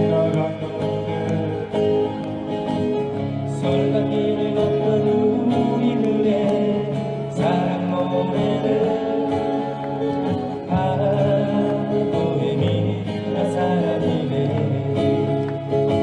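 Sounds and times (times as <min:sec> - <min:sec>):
instrumental acoustic guitar music: 0:00.0 - 0:16.0.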